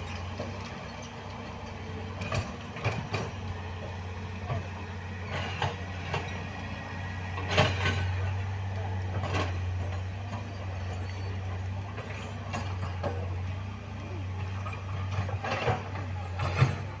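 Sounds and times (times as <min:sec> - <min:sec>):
metallic clanks and knocks: 0:00.0 - 0:06.4, 0:07.4 - 0:08.5, 0:09.1 - 0:13.5, 0:14.5 - 0:17.0
heavy diesel machinery humming: 0:00.0 - 0:17.0.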